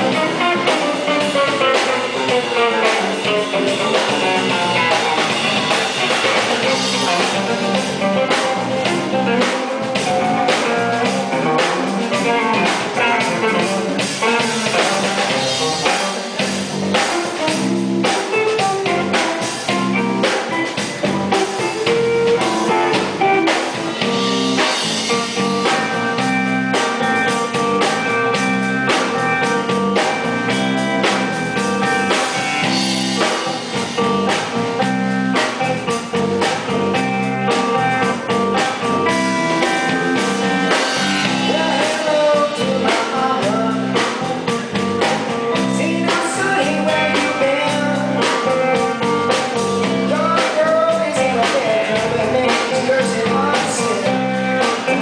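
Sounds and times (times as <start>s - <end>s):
blues rock band playing: 0.0s - 55.0s
electric guitar bending notes: 0.0s - 55.0s.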